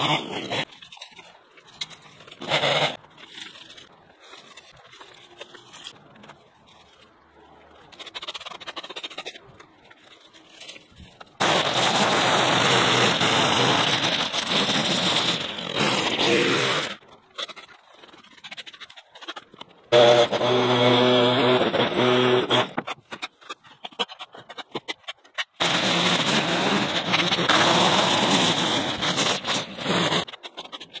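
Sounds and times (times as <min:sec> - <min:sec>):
scraping and rustling of debris: 0:00.0 - 0:31.0.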